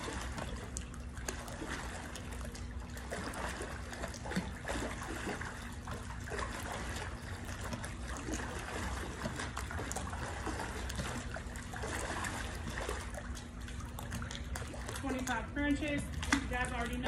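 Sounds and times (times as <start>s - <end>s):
faint hum: 0.0s - 17.0s
pool water splashing: 0.0s - 17.0s.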